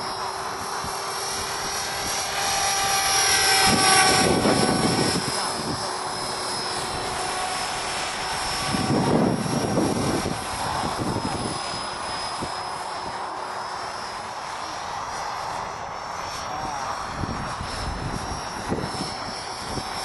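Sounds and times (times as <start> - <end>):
rc helicopter motor whining: 0.0 - 20.0.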